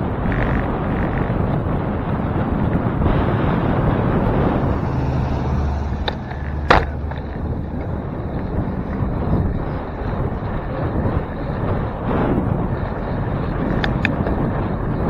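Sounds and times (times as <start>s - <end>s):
car engines: 0.0s - 15.0s
low engine hum: 0.0s - 15.0s
road rumble: 0.0s - 15.0s
wind on microphone: 0.0s - 15.0s.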